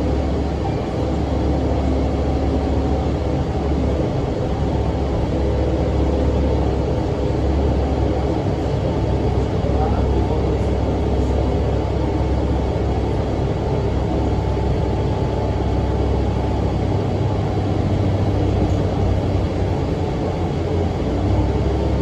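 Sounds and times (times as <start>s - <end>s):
bus diesel engine drone: 0.0s - 22.0s
engine cooling fan: 0.0s - 22.0s.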